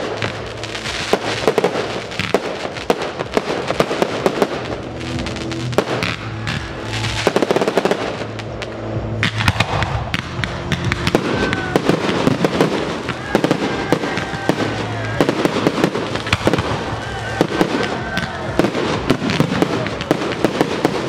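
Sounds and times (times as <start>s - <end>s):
firework crackling: 0.0s - 21.0s
fireworks bangs and pops: 0.0s - 21.0s.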